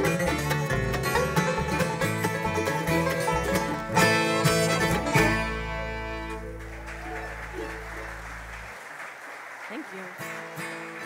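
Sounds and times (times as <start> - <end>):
bluegrass band playing: 0.0 - 8.8, 10.2 - 11.0.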